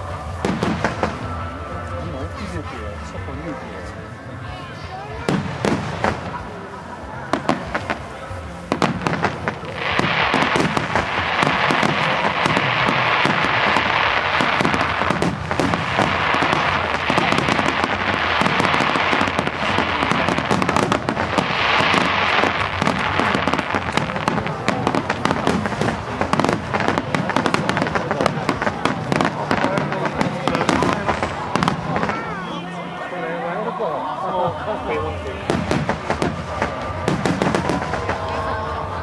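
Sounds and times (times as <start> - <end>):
fireworks bursting: 0.0 - 4.0, 5.0 - 33.0, 34.8 - 39.0
fireworks crackling: 0.0 - 33.1, 34.5 - 39.0.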